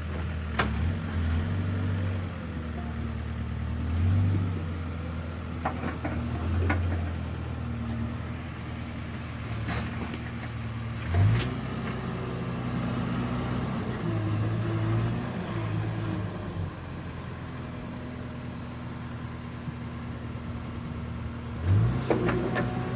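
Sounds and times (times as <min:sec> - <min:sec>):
diesel engine working under load: 0:00.0 - 0:22.9.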